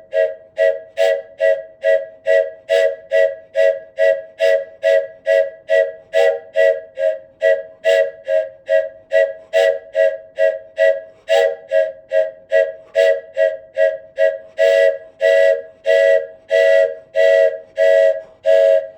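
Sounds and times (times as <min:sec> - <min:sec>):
wooden train whistle toots: 0:00.0 - 0:18.9.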